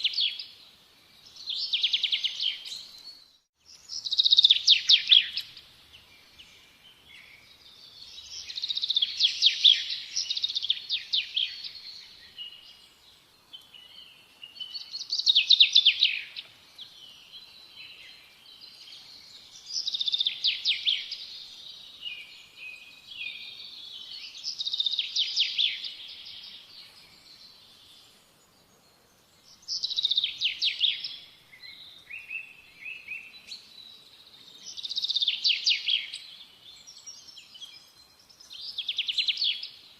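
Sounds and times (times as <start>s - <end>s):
faint bird chirps: 0.0s - 39.9s
songbird singing: 0.0s - 39.9s.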